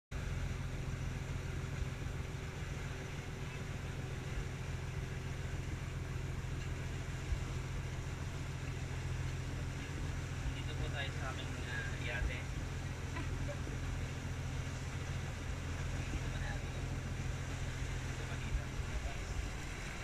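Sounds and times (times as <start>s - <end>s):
boat engine humming: 0.1s - 20.0s.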